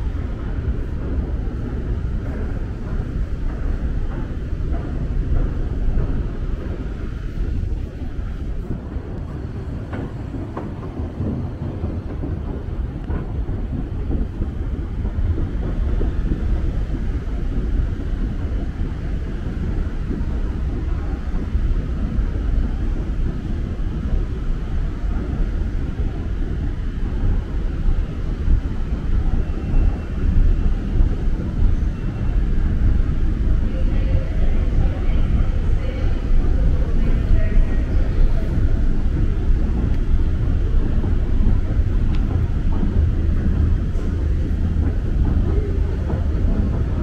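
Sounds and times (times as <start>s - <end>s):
escalator rumble: 0.0s - 47.0s.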